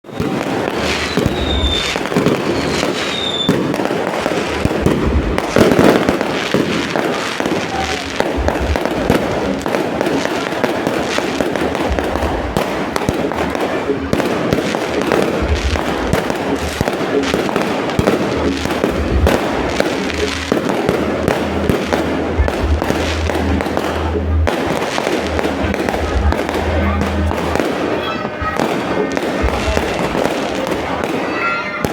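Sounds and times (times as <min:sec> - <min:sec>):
fireworks bangs and crackling: 0:00.0 - 0:31.9.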